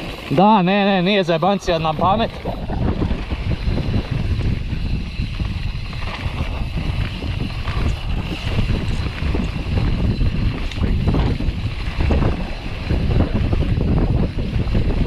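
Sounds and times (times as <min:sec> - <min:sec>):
bike tyres rolling on dirt: 0:00.0 - 0:15.0
wind buffeting microphone: 0:00.0 - 0:15.0.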